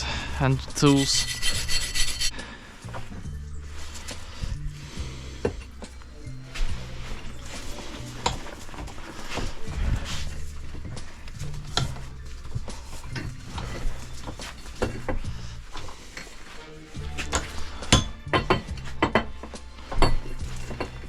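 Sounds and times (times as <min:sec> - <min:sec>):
hand tools scraping metal: 0:00.0 - 0:03.0, 0:05.0 - 0:21.0.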